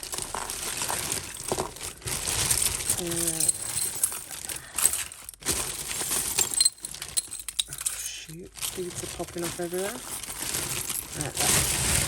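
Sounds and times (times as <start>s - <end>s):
jewellery and beads clattering: 0.0s - 12.0s
plastic bag crinkling: 0.0s - 12.0s.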